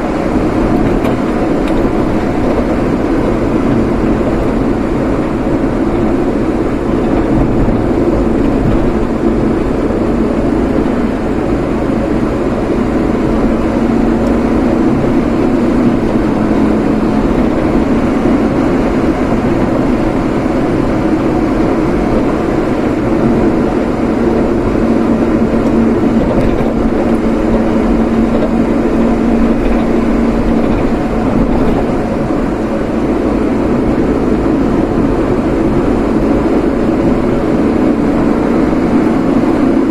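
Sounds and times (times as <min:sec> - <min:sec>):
vehicle road and engine noise: 0:00.0 - 0:39.9.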